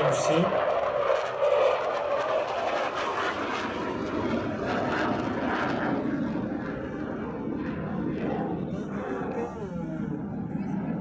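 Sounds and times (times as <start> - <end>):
jet engine roaring overhead: 0.0 - 11.0.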